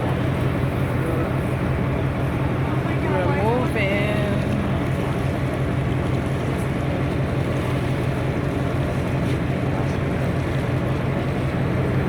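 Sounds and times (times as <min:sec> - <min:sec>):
boat engine running: 0:00.0 - 0:12.0
water rushing past hull: 0:00.0 - 0:12.0.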